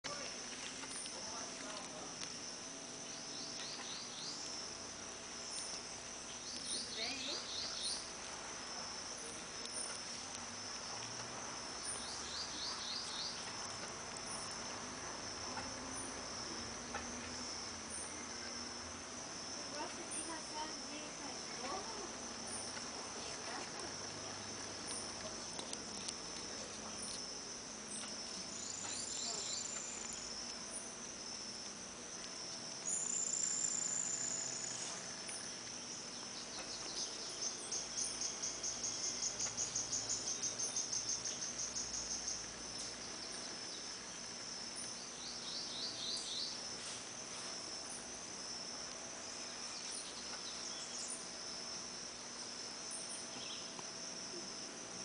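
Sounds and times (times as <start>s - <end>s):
insects chorus: 0.0s - 55.0s
pulsed insect trill: 0.1s - 55.0s.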